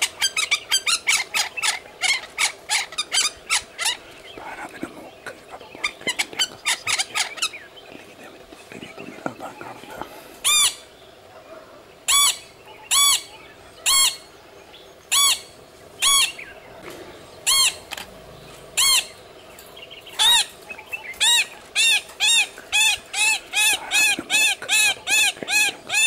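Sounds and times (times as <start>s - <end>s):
bird calling: 0.0s - 26.0s.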